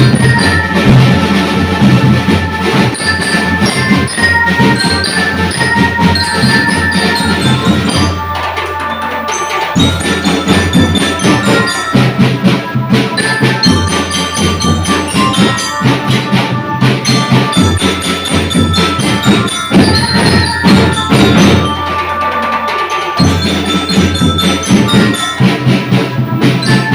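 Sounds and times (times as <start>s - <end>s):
mallet bell melody: 0.0s - 26.9s
marching drums: 0.0s - 26.9s.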